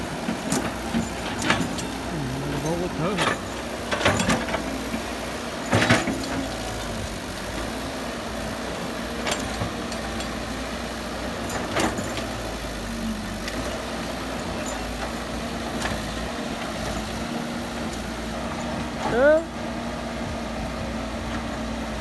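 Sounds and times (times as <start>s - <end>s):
excavator engine running: 0.0s - 22.0s.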